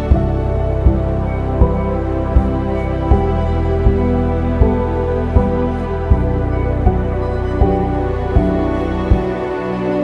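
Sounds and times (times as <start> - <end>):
low beat: 0.0 - 10.0
sustained music chords: 0.0 - 10.0.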